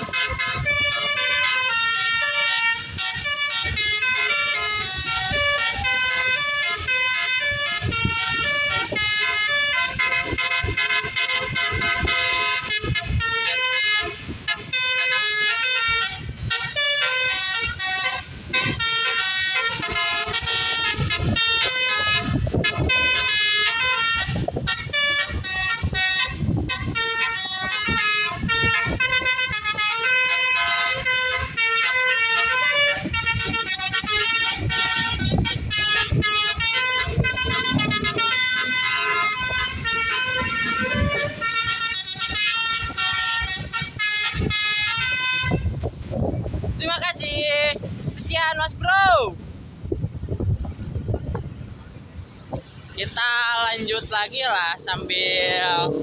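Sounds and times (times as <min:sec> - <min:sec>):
multi-tone bus horn melody: 0:00.0 - 0:46.2, 0:52.2 - 0:56.0.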